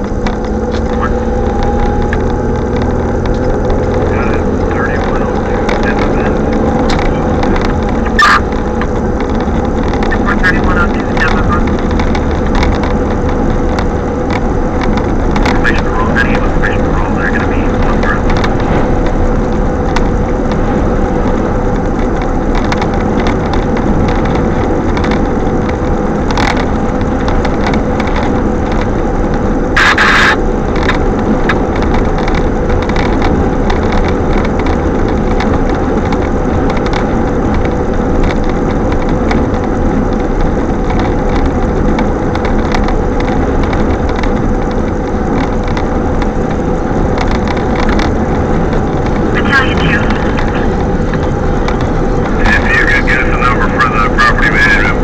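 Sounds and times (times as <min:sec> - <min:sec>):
strong wind buffeting microphone: 0:00.0 - 0:55.0.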